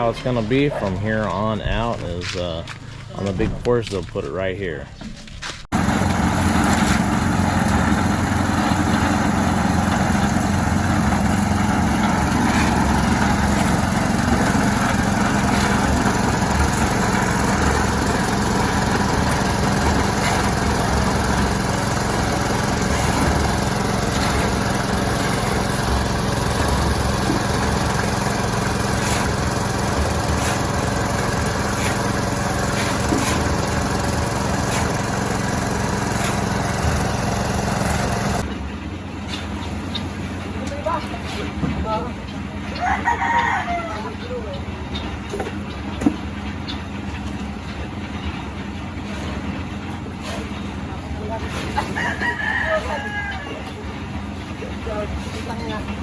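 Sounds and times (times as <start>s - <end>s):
concrete mixer engine running: 5.7s - 56.0s.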